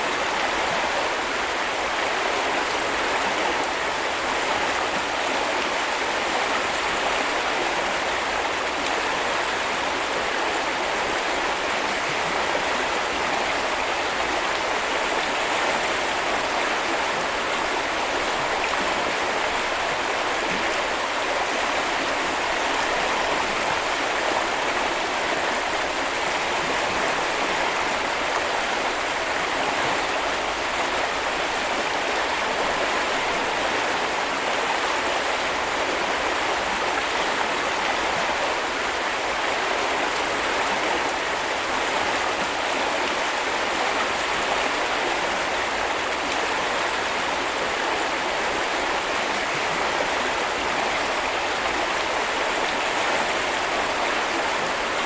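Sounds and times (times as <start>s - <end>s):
brook flowing over stones: 0.0s - 55.0s.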